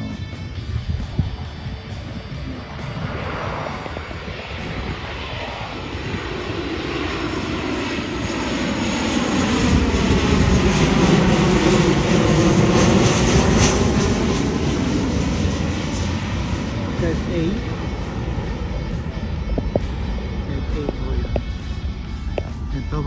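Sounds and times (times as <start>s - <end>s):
jet airliner flying overhead: 0.0s - 23.0s.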